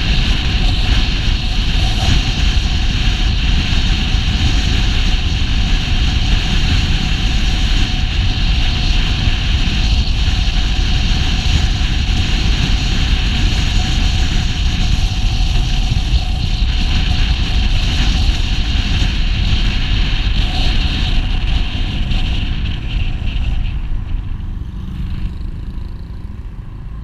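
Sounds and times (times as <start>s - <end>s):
road and vehicle rumble: 0.0s - 27.0s
wind rushing over microphone: 0.0s - 27.0s.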